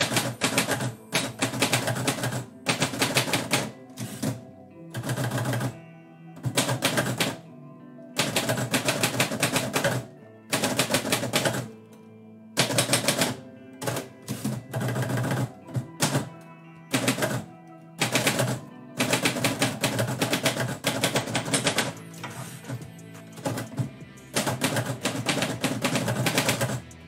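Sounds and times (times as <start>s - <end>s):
manual typewriter keystrokes: 0.0s - 5.7s, 6.4s - 7.4s, 8.2s - 11.7s, 12.6s - 16.3s, 16.9s - 27.0s
soft background music: 0.0s - 27.0s.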